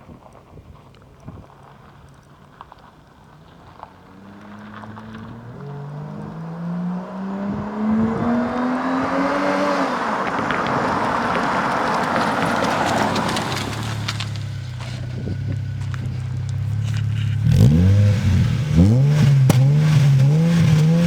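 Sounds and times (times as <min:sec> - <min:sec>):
tyre and wind noise: 0:00.0 - 0:21.0
car engine accelerating: 0:03.4 - 0:21.0.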